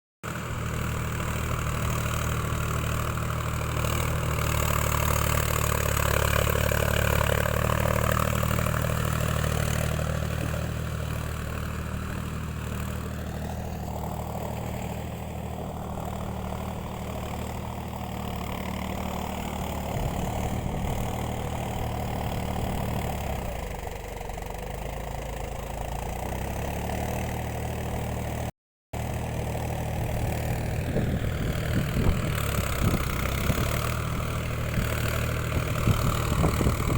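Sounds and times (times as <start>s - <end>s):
tractor diesel engine running hard: 0.2s - 36.9s.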